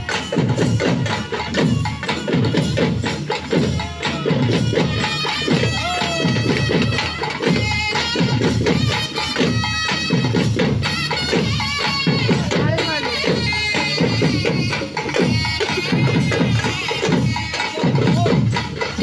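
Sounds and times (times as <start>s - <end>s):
drums fast steady beat: 0.0s - 19.0s
wind instrument melody: 0.0s - 19.0s.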